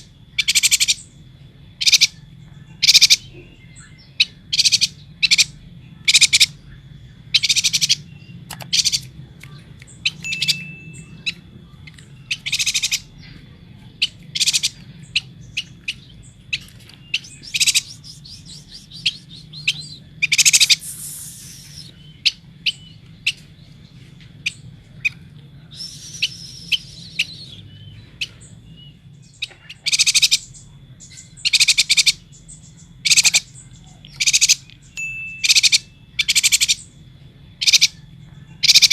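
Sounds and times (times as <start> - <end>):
bird chirping: 0.0 - 38.9
faint low hum: 0.0 - 38.9.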